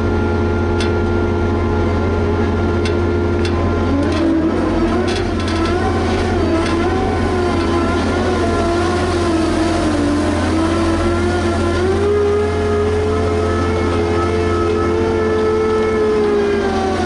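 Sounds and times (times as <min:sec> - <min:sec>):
crane diesel engine under load: 0:00.0 - 0:17.0.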